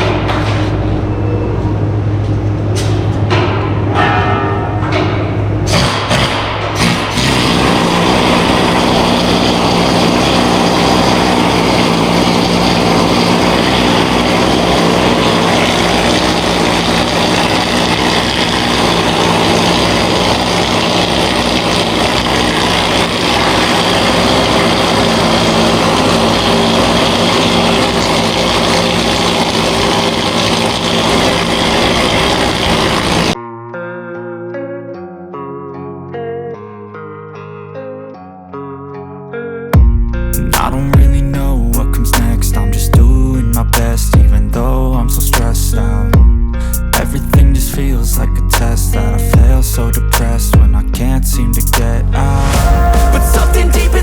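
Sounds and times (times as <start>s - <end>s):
power tool grinding: 0.0s - 1.1s, 2.8s - 33.4s, 40.2s - 54.0s.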